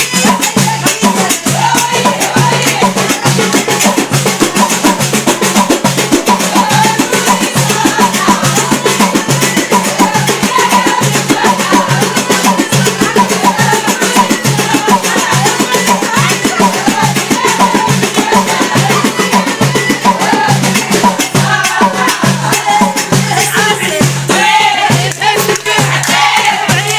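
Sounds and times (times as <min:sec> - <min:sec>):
fast drumming: 0:00.0 - 0:26.9.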